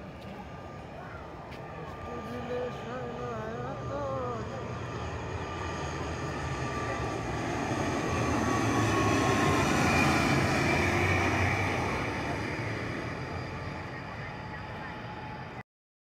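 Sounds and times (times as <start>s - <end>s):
propeller airliner droning past: 0.0s - 15.6s.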